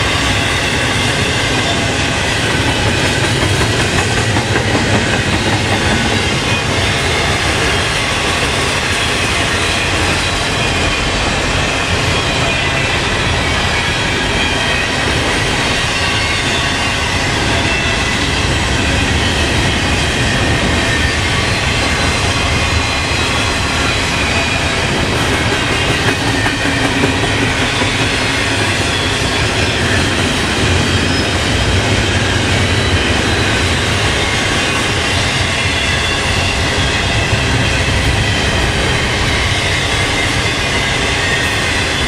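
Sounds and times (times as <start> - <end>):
steel wheels on rail: 0.0 - 42.0.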